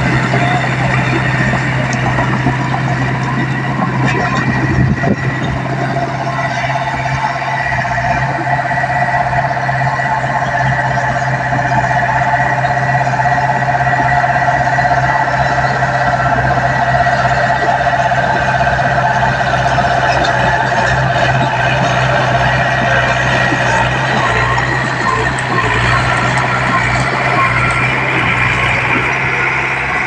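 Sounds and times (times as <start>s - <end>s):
bulldozer diesel engine under load: 0.0s - 30.0s
steady whining tones: 0.0s - 30.0s.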